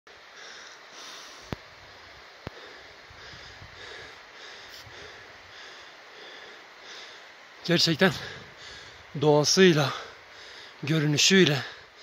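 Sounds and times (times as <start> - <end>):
person breathing heavily: 0.2 - 9.2, 9.9 - 10.9, 11.6 - 12.0.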